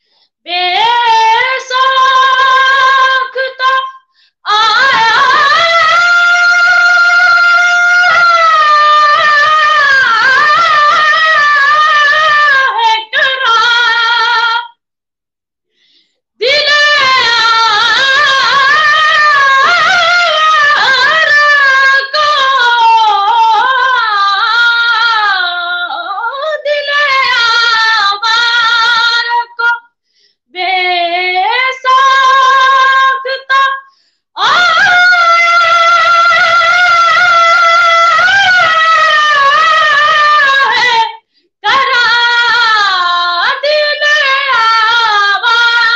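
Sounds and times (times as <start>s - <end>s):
boy singing unaccompanied: 0.5s - 14.7s, 16.4s - 29.8s, 30.6s - 33.8s, 34.4s - 45.9s.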